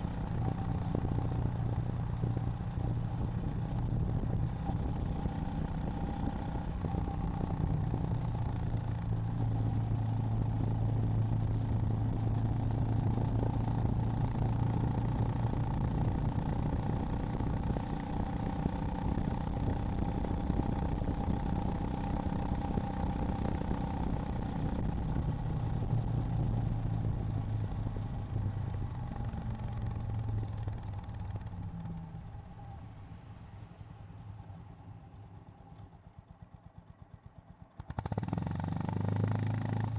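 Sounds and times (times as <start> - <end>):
motorcycle engine running: 0.0 - 33.2, 33.8 - 39.9.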